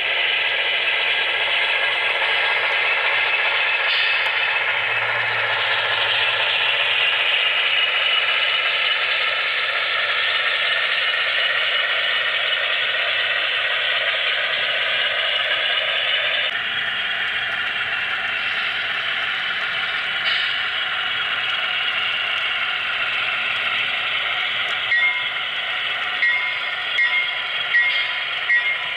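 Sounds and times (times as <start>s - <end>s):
model train whirring and rattling: 0.0s - 28.9s.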